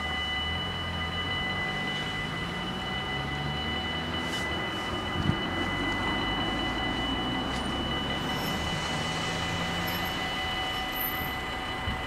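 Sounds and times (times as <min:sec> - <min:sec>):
level crossing warning bells: 0:00.0 - 0:12.0.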